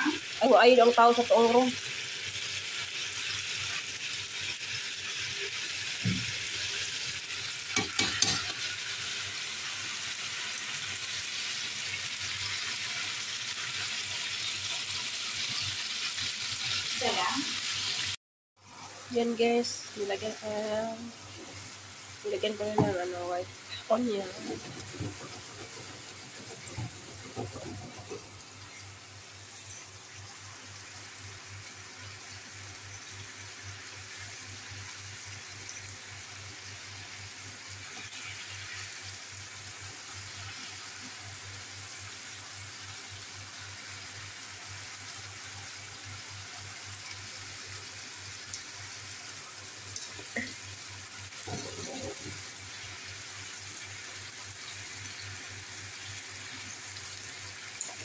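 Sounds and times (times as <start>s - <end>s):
meat and onions sizzling: 0.0s - 58.0s.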